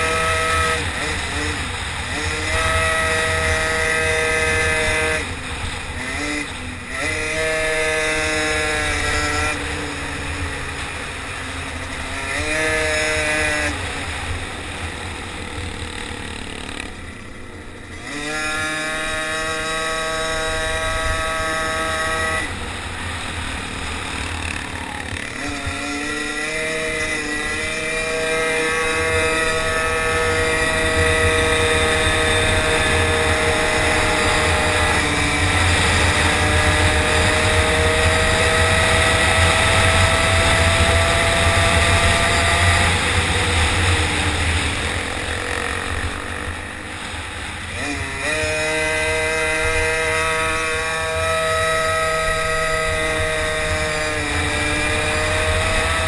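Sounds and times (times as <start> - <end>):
small engine revving: 0.0 - 56.0.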